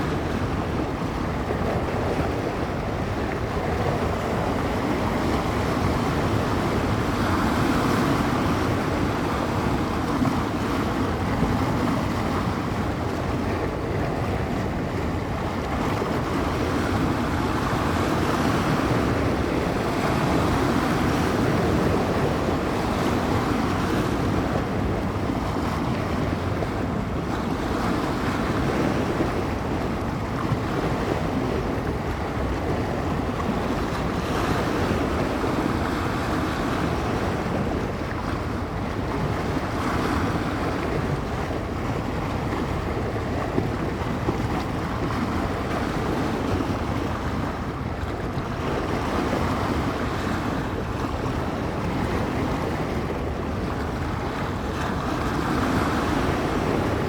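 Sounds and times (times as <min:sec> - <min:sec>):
waves washing onto shore: 0:00.0 - 0:57.0
wind buffeting microphone: 0:00.0 - 0:57.0.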